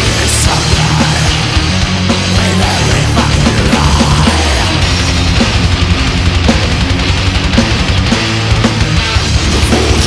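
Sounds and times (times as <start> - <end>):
distorted electric guitars: 0.0 - 10.0
fast drumming: 0.0 - 10.0.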